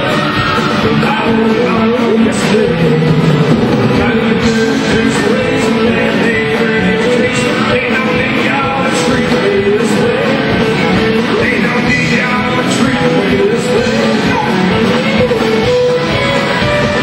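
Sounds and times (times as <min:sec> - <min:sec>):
live country-rock band: 0:00.0 - 0:17.0.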